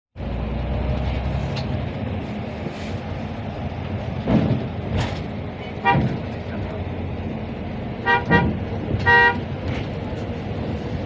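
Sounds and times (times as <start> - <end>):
road traffic rumble: 0.2 - 11.0.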